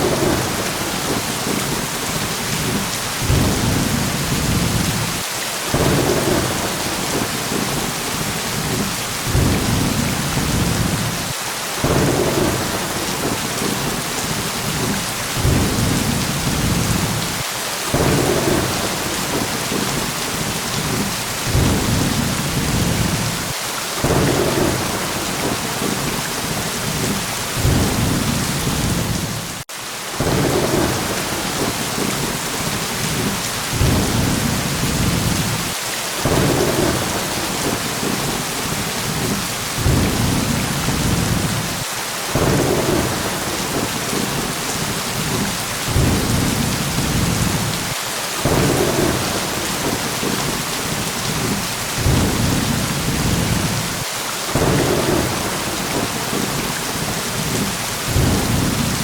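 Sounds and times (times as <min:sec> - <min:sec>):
low thunder rumbles: 0:00.0 - 0:29.6, 0:30.2 - 0:59.0
heavy rain hissing: 0:00.0 - 0:59.0.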